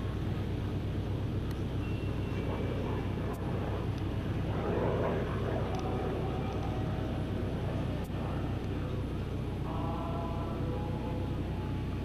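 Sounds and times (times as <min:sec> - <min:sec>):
radial aircraft engine running: 0:00.0 - 0:12.0.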